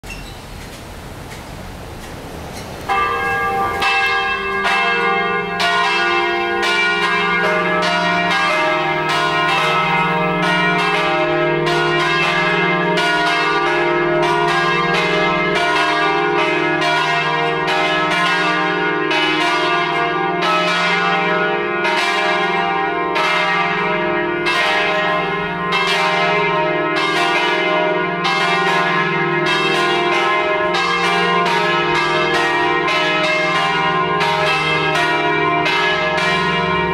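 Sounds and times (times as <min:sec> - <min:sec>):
church bells pealing: 0:02.8 - 0:36.9.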